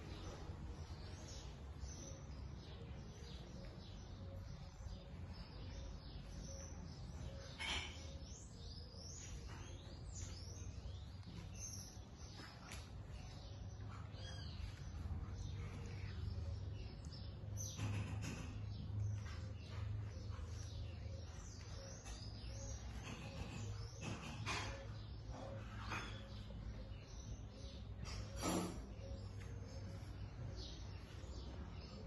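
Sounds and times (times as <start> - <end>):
faint bird chirping: 0.0 - 32.0.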